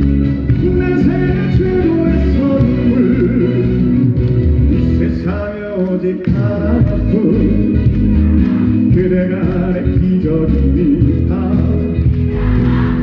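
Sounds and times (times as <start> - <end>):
band playing: 0.0 - 13.0
man singing into microphone: 0.5 - 3.9, 4.7 - 13.0.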